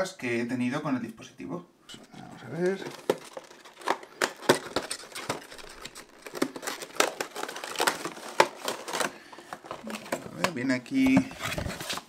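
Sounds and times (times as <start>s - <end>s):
plastic packaging clicks and crinkles: 1.9s - 12.0s.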